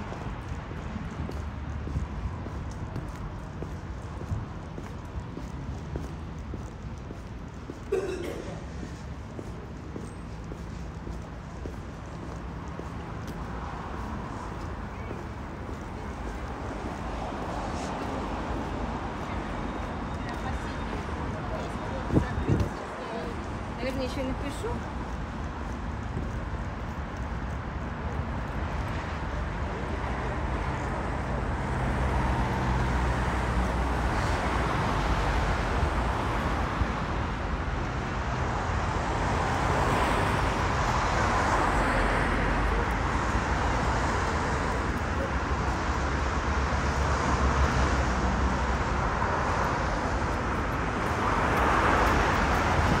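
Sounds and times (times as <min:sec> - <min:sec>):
passing cars: 0:00.0 - 0:53.0.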